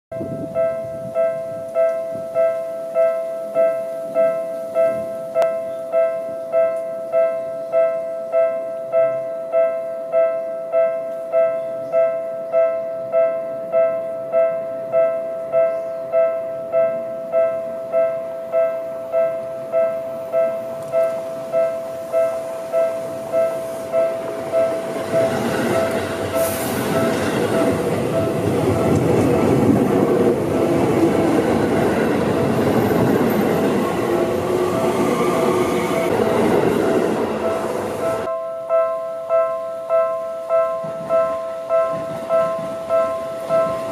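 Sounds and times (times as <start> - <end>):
level-crossing alarm ringing: 0.2 - 43.9.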